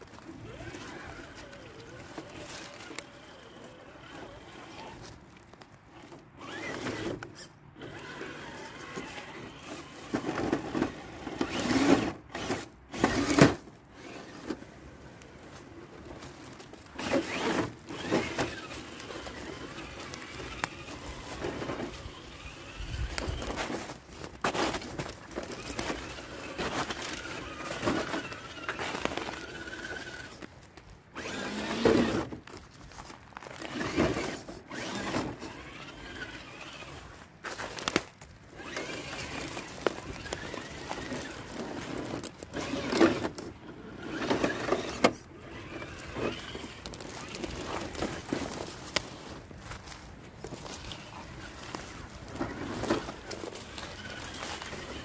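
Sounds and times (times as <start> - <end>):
electric motor whining: 0.1 - 5.2, 6.1 - 14.6, 16.2 - 30.5, 31.1 - 32.6, 33.4 - 49.3, 50.4 - 55.0
scraping and knocking on ground: 8.8 - 14.7, 15.5 - 55.0.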